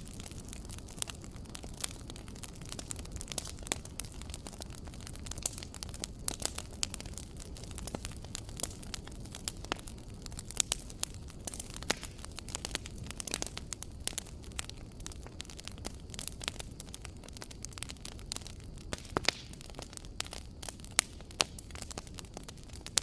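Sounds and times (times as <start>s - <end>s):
flames rumbling: 0.0s - 23.0s
wood fire pops and snaps: 0.0s - 23.0s.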